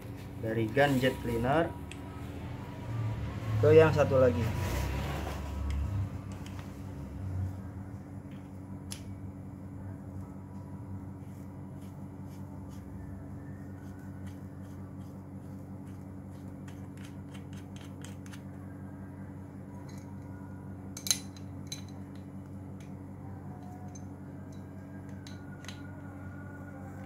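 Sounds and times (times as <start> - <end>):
steady low hum: 0.0 - 4.1, 5.3 - 27.0.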